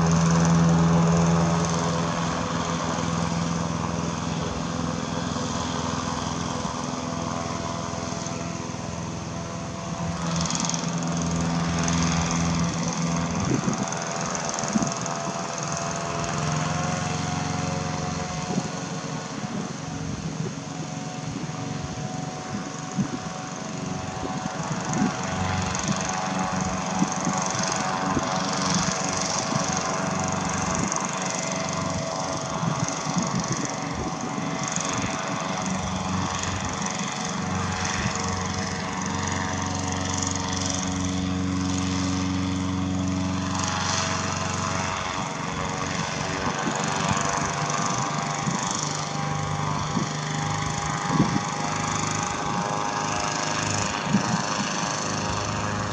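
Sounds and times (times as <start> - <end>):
propeller engine running: 0.0 - 55.9.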